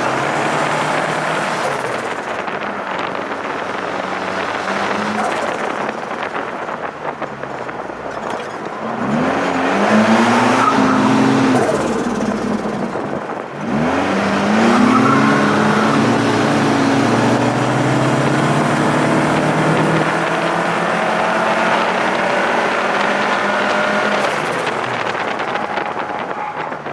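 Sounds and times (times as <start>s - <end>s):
car engine accelerating hard: 0.0s - 26.9s.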